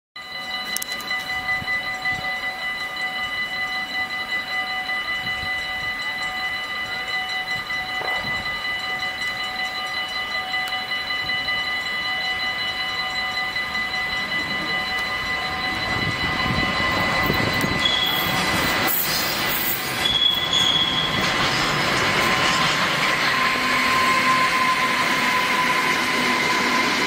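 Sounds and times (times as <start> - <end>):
electric locomotive rumble: 0.2 - 27.0
high-pitched multi-tone whine: 0.2 - 27.0.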